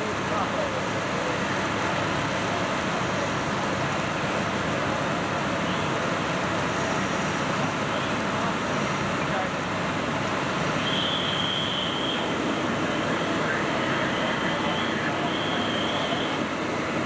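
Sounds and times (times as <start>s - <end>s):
diesel engines and pumps running: 0.0s - 17.0s.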